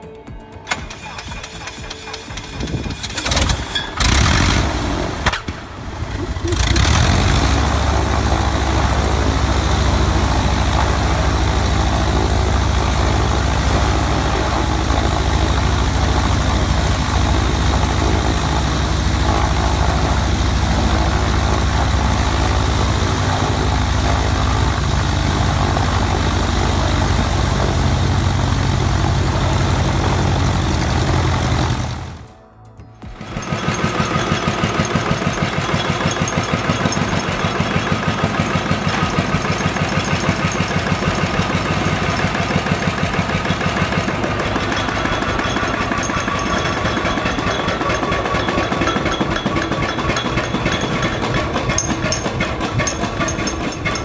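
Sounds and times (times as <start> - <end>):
old engine starting and running: 0.0 - 32.4, 33.1 - 54.0.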